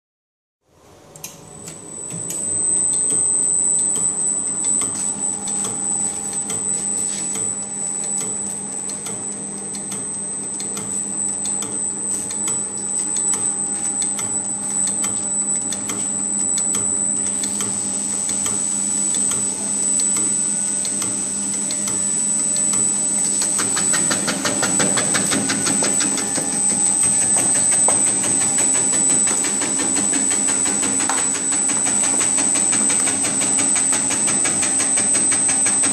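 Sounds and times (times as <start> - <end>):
machine motor hum with whine: 0.7 - 35.9.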